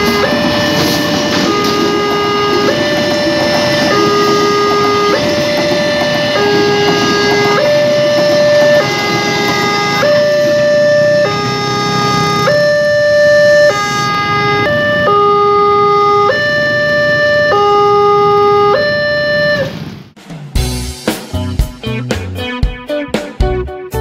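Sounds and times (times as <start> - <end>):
two-tone crossing alarm: 0.0 - 20.0.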